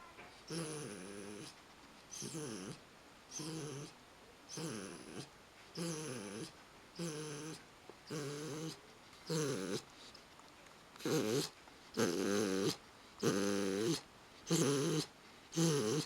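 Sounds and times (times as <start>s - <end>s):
dog snoring loudly: 0.5s - 1.5s, 2.1s - 3.9s, 4.5s - 9.8s, 11.0s - 16.0s.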